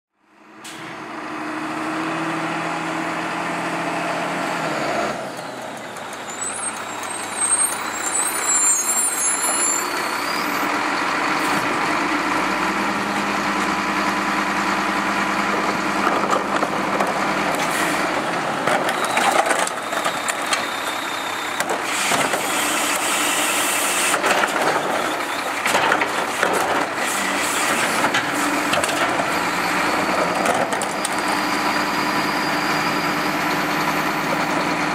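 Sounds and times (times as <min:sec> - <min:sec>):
garbage truck engine running: 0:00.2 - 0:34.9.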